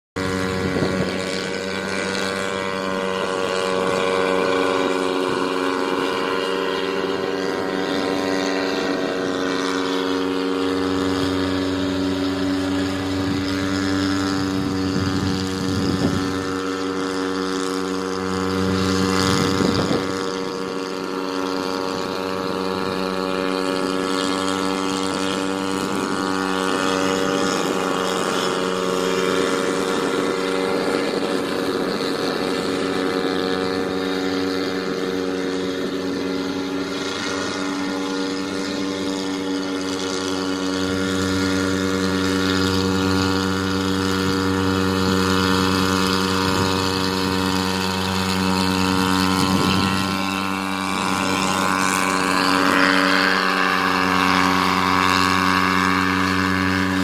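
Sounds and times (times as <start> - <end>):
helicopter engine and rotor drone: 0.2 - 57.0.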